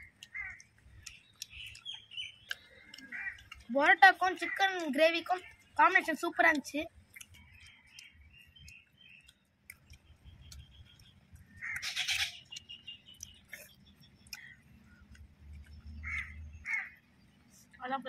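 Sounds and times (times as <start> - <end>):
birds chirping faintly: 0.0 - 18.0
eating clicks: 0.0 - 18.0.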